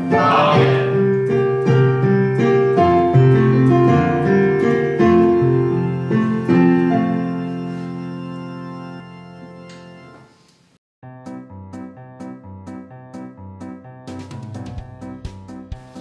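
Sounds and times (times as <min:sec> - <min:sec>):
piano chords: 0:00.0 - 0:10.4, 0:11.0 - 0:15.7.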